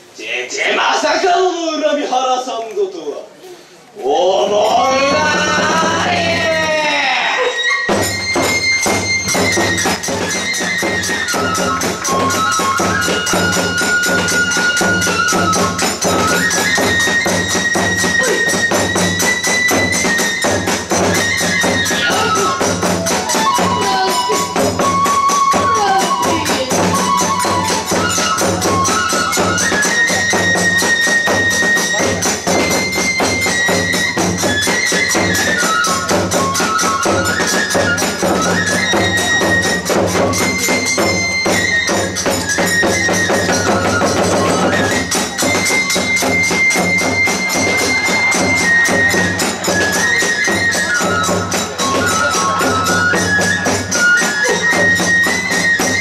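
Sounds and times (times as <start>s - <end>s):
bamboo flute melody: 4.0s - 56.0s
small stand drum beats: 4.5s - 7.1s, 7.8s - 56.0s
large barrel drum beats: 4.6s - 7.1s, 7.9s - 56.0s
small hand cymbals clashing: 7.9s - 56.0s.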